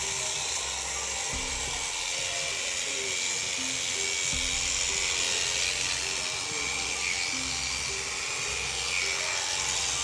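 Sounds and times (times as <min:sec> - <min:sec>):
background music: 0:00.0 - 0:10.0
electric shears buzzing: 0:00.0 - 0:10.0.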